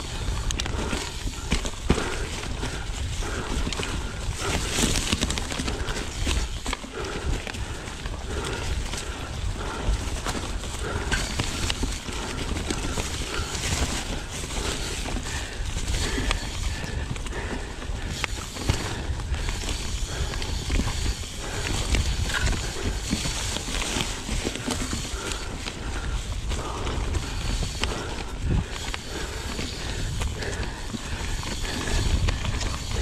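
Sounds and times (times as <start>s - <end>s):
bike knocking and rattling: 0.0s - 33.0s
tyres crunching over dirt: 0.0s - 33.0s
wind rumble on microphone: 0.0s - 33.0s.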